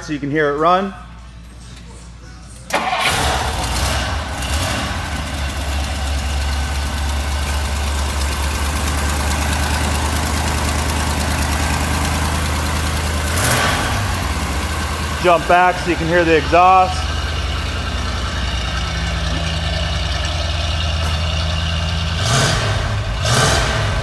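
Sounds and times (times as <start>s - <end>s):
car engine starting and idling: 0.0s - 24.0s
engine revving: 2.7s - 24.0s.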